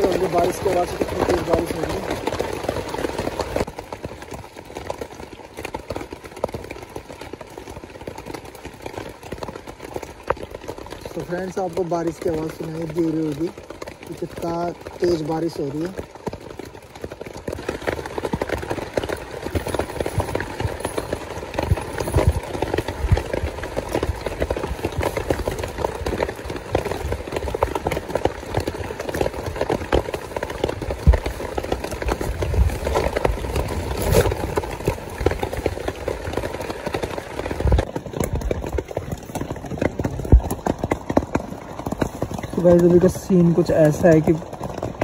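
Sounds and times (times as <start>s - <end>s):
heavy rain on a tent: 0.0s - 45.0s.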